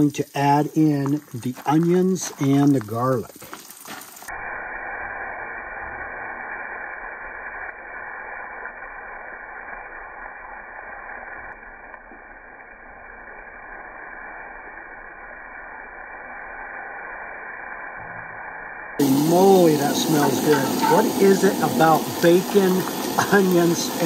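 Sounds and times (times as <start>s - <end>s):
onions sizzling in fat: 0.0s - 18.0s, 19.0s - 24.0s.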